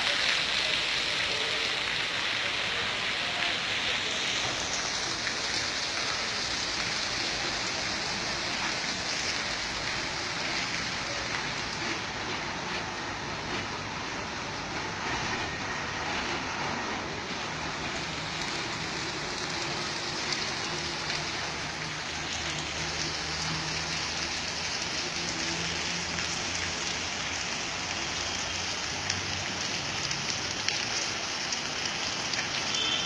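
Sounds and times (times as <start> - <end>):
water spraying on bus: 0.0 - 33.0.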